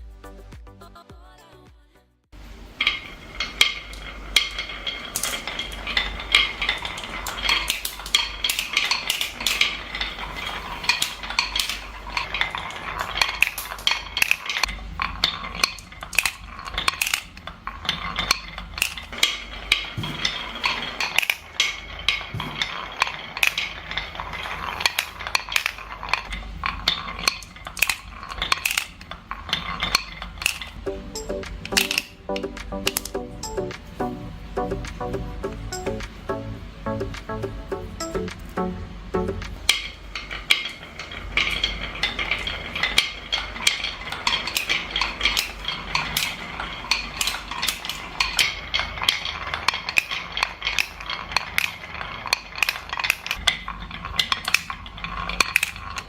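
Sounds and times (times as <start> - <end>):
marbles clattering down a track: 2.8 - 56.0.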